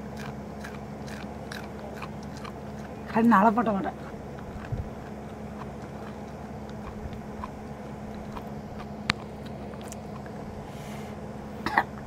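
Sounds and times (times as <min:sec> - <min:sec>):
crunching of okra being chewed: 0:00.0 - 0:12.0
low hum: 0:00.0 - 0:12.0.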